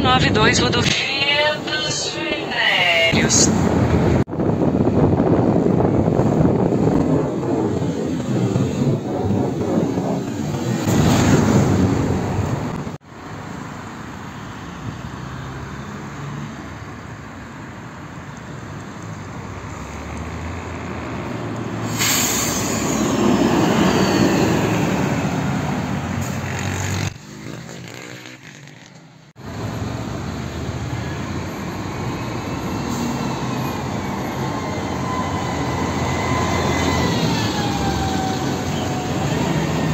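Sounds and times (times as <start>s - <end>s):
buses driving past: 0.0s - 39.9s.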